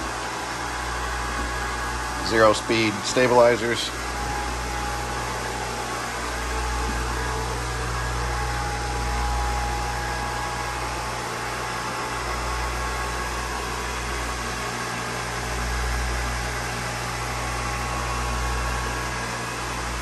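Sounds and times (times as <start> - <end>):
fan rush: 0.0 - 20.0
machinery hum: 0.0 - 20.0.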